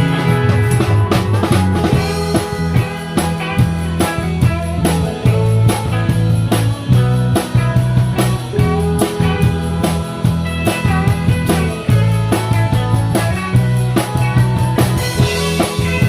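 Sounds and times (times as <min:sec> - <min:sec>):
bass guitar notes: 0:00.0 - 0:16.0
drum kit beat: 0:00.0 - 0:16.0
electric guitar lines: 0:00.0 - 0:16.0.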